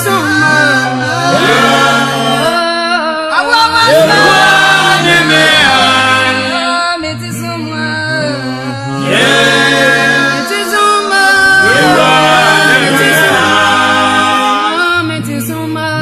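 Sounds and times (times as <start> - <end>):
low bass notes: 0.0 - 2.8, 3.7 - 16.0
choir singing gospel: 0.0 - 16.0.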